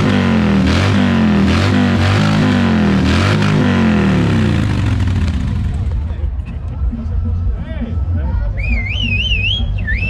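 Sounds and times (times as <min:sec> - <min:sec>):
low bass line: 0:00.0 - 0:10.0.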